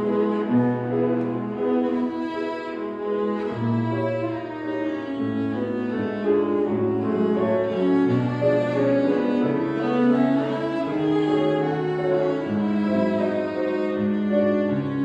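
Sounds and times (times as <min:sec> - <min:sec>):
cello melody: 0:00.0 - 0:15.0
piano accompaniment: 0:00.0 - 0:15.0.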